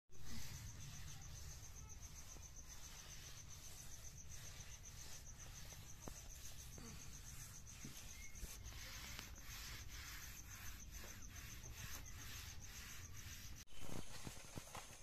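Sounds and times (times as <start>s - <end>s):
cricket chirping trill: 0.2s - 14.5s.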